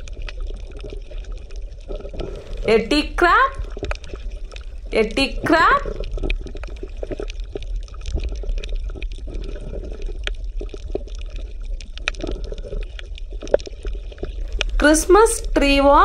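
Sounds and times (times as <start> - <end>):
bubbling gurgling water: 0.0 - 2.7, 3.5 - 14.8
small underwater clicks and pops: 0.0 - 2.7, 3.6 - 4.9, 5.8 - 14.9.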